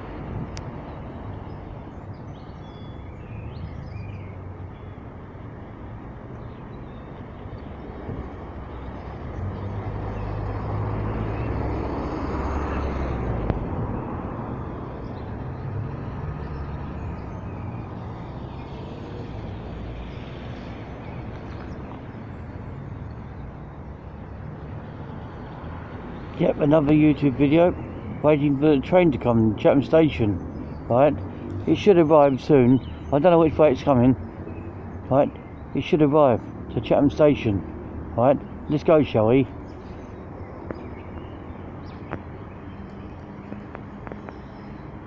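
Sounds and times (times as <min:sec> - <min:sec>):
passing vehicles rumbling: 0:00.0 - 0:45.0.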